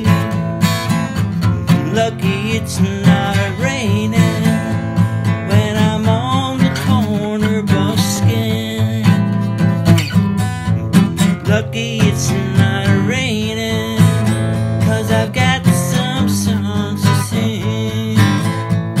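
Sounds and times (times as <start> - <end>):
bass line: 0.0 - 19.0
strummed acoustic guitar: 0.0 - 19.0.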